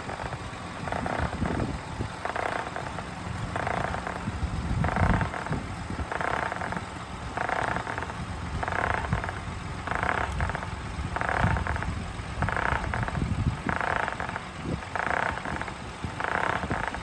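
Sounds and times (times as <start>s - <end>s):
tyre making repeating noise: 0.0s - 17.0s.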